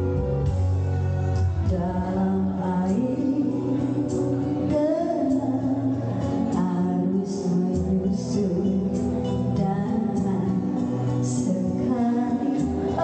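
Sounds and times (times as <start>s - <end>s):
backing music over sound system: 0.0s - 13.0s
woman singing into a microphone: 1.3s - 13.0s.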